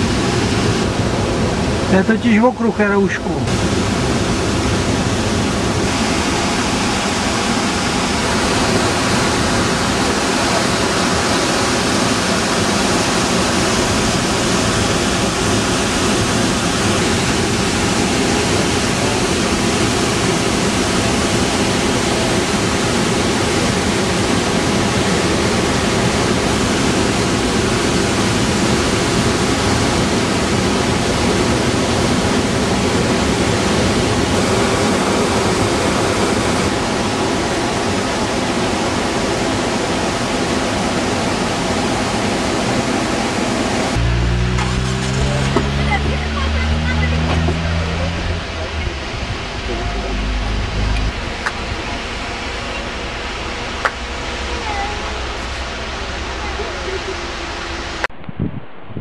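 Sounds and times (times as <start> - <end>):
waterfall rushing: 0.0 - 58.1.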